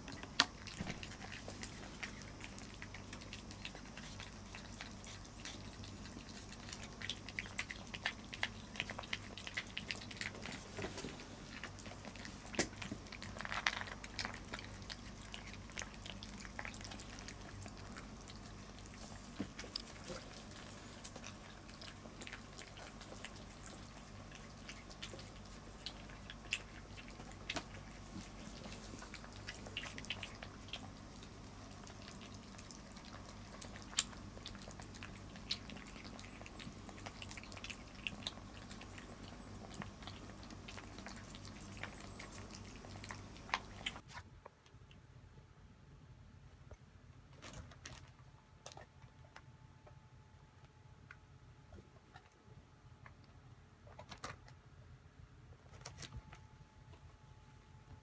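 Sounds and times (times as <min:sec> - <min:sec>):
cats crunching dry kibble: 0:00.0 - 0:44.8, 0:47.2 - 0:50.0, 0:51.8 - 0:54.8, 0:55.5 - 0:57.2
faint low hum: 0:00.0 - 0:58.0.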